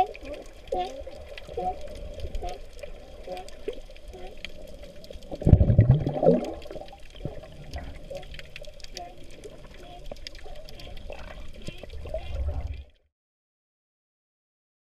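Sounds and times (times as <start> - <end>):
sea lions calling underwater: 0.0 - 12.9
watery rush: 0.0 - 12.9.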